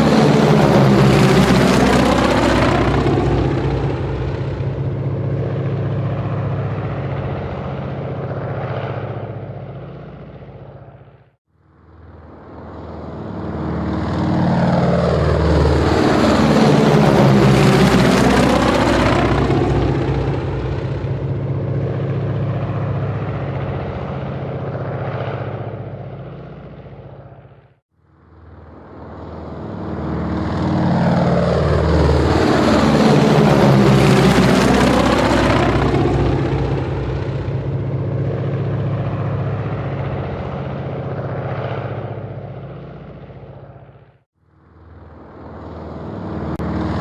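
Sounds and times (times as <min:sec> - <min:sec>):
helicopter flying past: 0:00.0 - 0:47.0.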